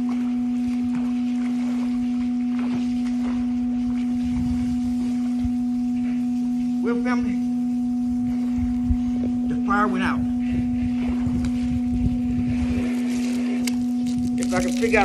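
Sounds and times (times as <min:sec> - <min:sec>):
loud low-pitched hum: 0:00.0 - 0:15.0.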